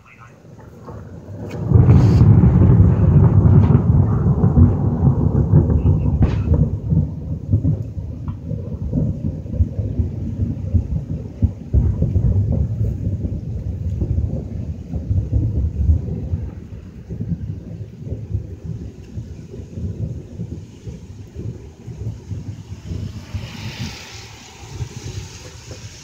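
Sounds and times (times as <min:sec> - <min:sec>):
thunder rumble: 0:00.0 - 0:26.0.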